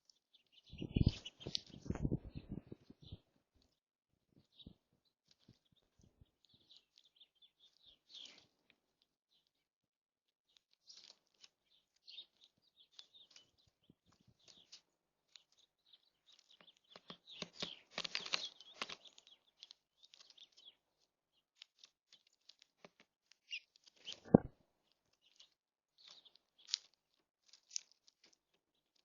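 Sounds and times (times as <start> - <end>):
birds pecking at seed: 0.0 - 29.0
small birds chirping: 0.0 - 29.0.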